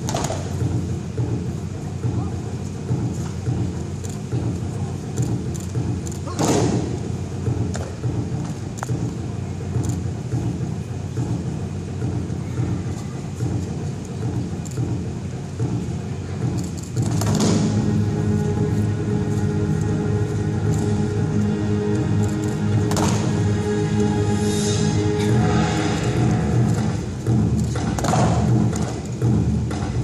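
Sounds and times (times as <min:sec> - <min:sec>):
low rumble of large hall: 0:00.0 - 0:30.0.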